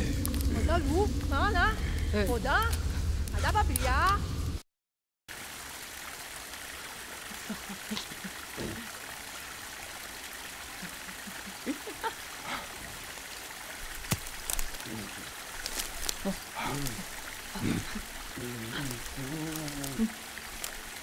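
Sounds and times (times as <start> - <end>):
running water rushing: 0.0 - 3.8, 5.3 - 21.0.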